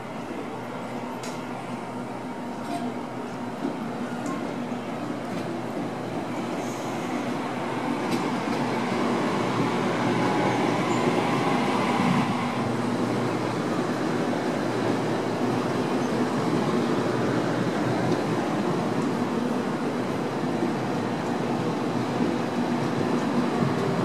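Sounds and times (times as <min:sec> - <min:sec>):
electric train rumbling past: 0:00.0 - 0:24.0.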